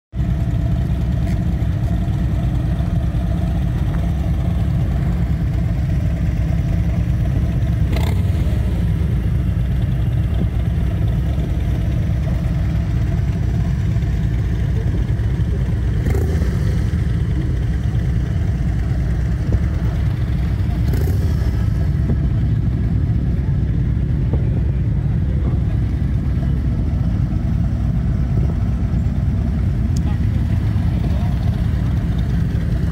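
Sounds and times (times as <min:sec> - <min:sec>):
motorcycle engine idling: 0:00.2 - 0:32.9.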